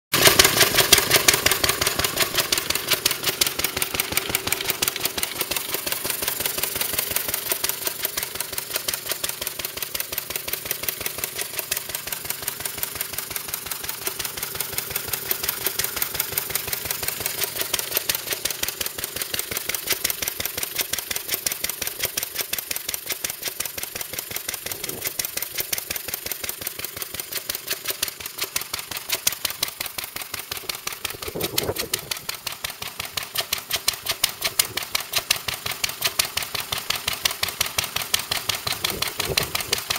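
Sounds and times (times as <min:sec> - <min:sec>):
stationary engine running steadily: 0:00.2 - 0:39.9.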